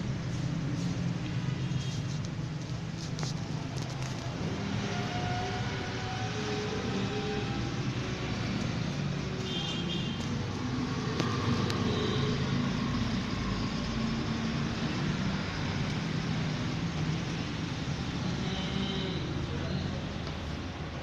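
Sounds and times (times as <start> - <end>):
road traffic din: 0.0 - 21.0.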